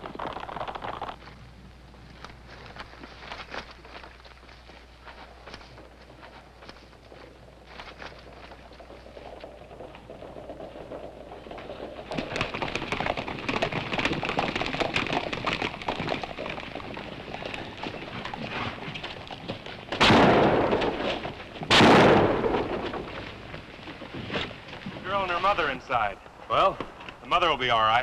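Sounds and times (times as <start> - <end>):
horses galloping: 0.0 - 28.0.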